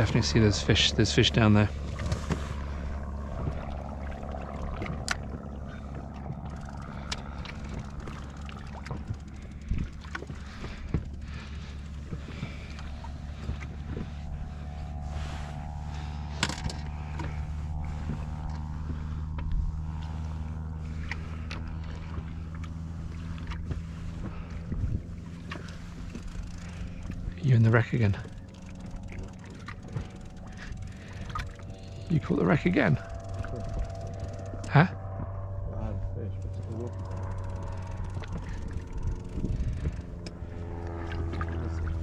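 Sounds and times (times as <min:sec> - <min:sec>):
water lapping against boat: 0:00.0 - 0:35.6, 0:36.4 - 0:42.0
low drone: 0:00.0 - 0:42.0.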